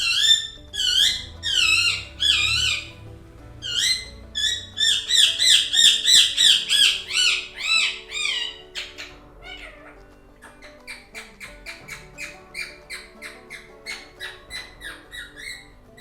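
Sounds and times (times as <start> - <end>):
parrot squawks: 0.0 - 16.0
parrot whistled calls: 0.0 - 16.0.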